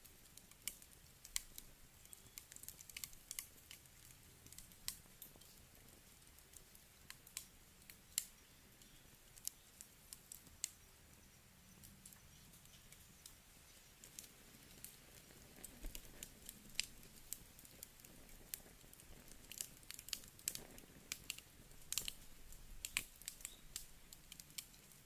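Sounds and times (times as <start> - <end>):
campfire crackling and popping: 0.0 - 25.0
faint hiss: 0.0 - 25.0.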